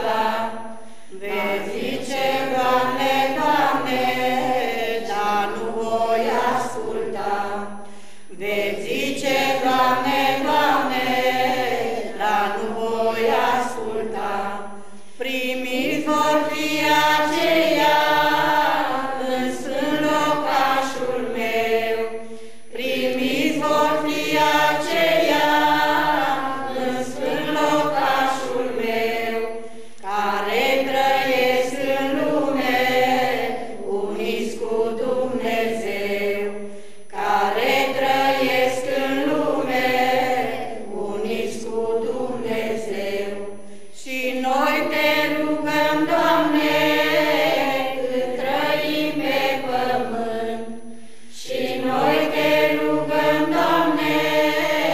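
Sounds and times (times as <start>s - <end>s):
choir singing a hymn unaccompanied: 0.0s - 54.9s.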